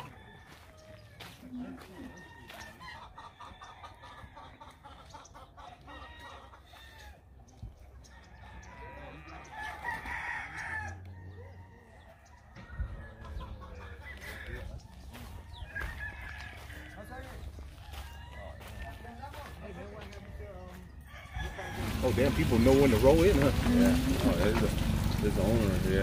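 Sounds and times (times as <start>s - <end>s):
rooster crowing: 0.0s - 4.4s, 8.1s - 20.3s, 20.9s - 26.0s
hens clucking: 0.0s - 26.0s.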